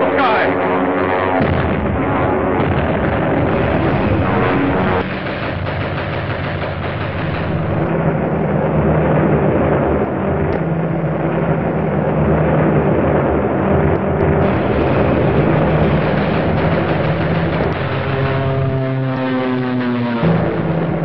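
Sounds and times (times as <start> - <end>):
engines roaring: 0.0 - 21.0
low even drone: 0.0 - 21.0.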